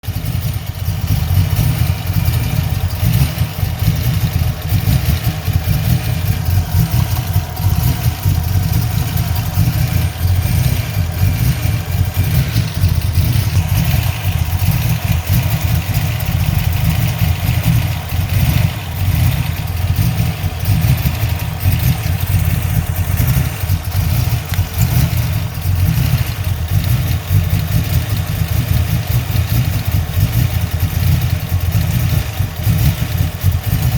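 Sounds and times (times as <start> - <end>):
misfiring engine exhaust: 0.0 - 33.9.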